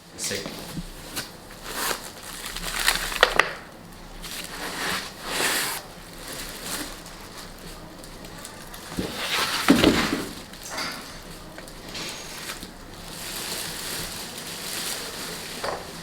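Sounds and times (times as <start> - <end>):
packaging crinkling and rustling: 0.3 - 16.0.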